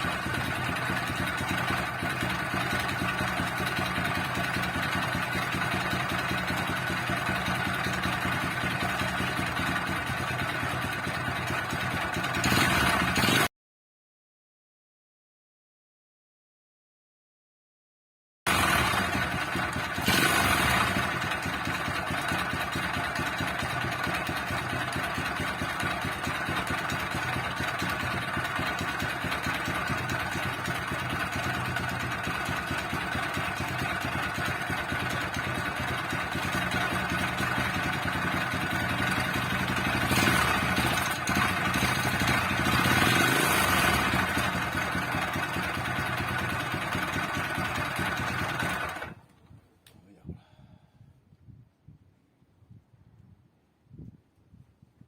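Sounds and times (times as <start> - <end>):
motorcycle engine idling and revving: 0.0 - 13.5, 18.5 - 49.3.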